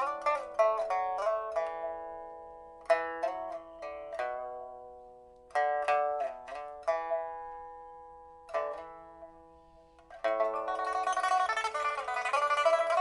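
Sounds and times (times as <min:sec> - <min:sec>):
pipa plucked notes: 0:00.0 - 0:13.0.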